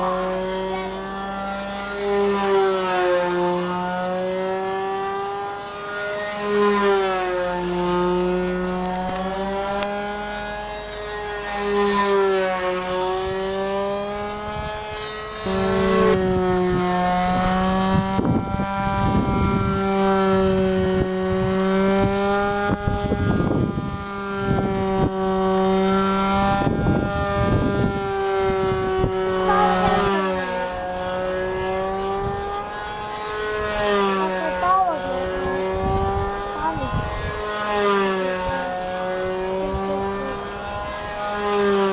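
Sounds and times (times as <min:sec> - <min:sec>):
model aircraft engine: 0:00.0 - 0:29.6, 0:31.9 - 0:41.9.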